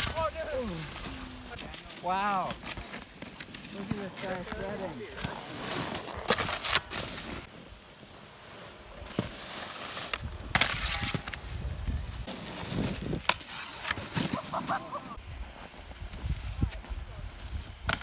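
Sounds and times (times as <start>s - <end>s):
snowboard scraping on snow: 0.0s - 17.8s
snow crunching: 0.0s - 18.0s.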